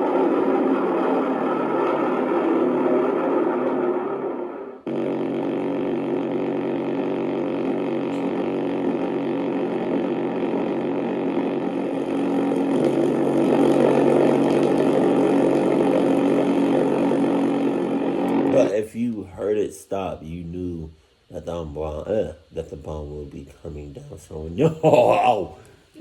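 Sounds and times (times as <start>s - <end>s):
pulse-jet engine droning buzz: 0.0s - 26.0s.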